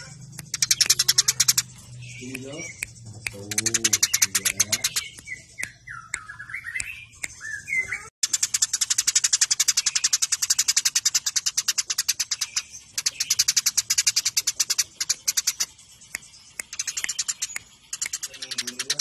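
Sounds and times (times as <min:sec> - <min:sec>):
sparrows chirping sharply: 0:00.0 - 0:19.0.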